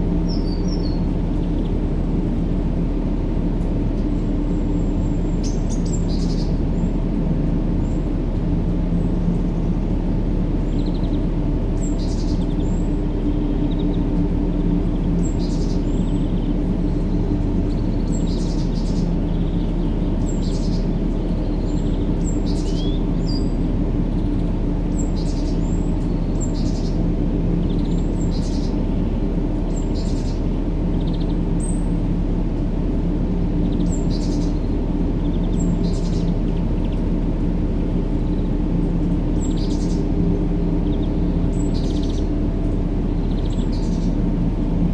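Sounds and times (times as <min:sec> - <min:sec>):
low rumbling noise with hum: 0:00.0 - 0:44.9.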